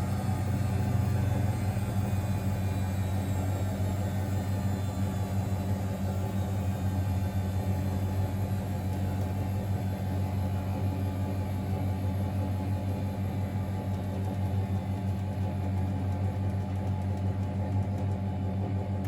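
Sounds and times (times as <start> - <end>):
washing machine hum and rumble: 0.0 - 19.0.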